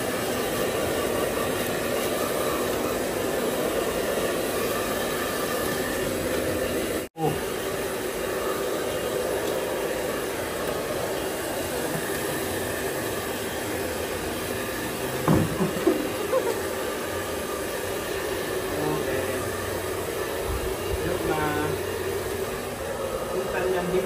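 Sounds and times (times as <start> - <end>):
hair dryer blowing: 0.0 - 24.0.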